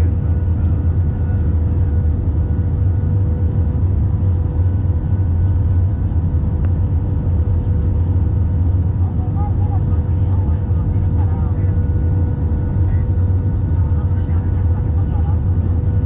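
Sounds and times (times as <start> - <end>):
airliner cabin engine rumble: 0.0 - 16.0
constant hum: 0.0 - 16.0.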